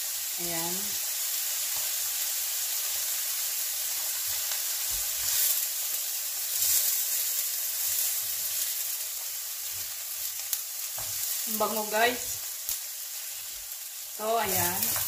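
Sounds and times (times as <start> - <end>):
shrimp and onions sizzling in pan: 0.0 - 15.0.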